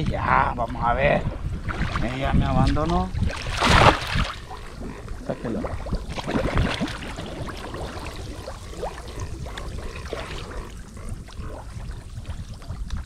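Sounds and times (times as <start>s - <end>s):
steady low rumble: 0.0s - 13.0s
shallow water splashing: 1.2s - 13.0s.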